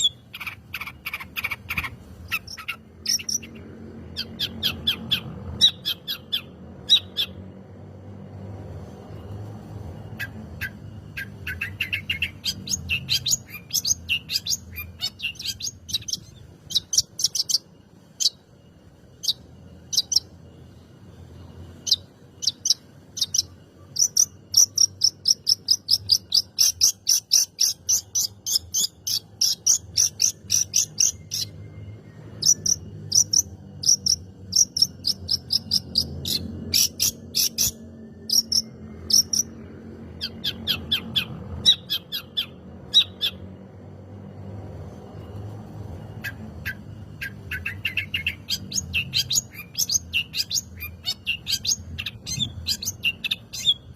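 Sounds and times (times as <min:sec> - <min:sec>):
bird chattering song: 0:00.0 - 0:07.6, 0:10.0 - 0:20.6, 0:21.7 - 0:43.6, 0:46.0 - 0:53.9.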